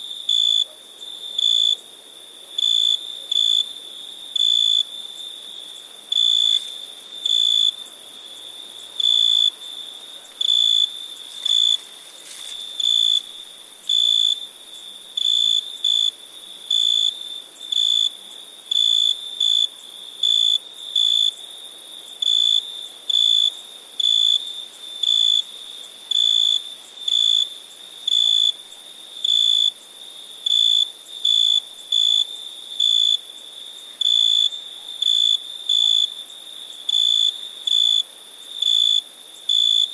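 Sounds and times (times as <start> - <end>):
cricket chirping loudly: 0.0 - 39.9
crickets trilling: 0.0 - 39.9
faint insect hiss: 0.0 - 39.9.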